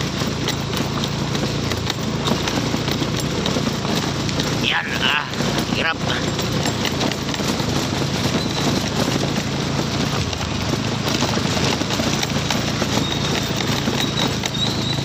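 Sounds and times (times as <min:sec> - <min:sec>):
motorcycle engine running: 0:00.0 - 0:15.0
motorcycle rattling over bumps: 0:00.0 - 0:15.0.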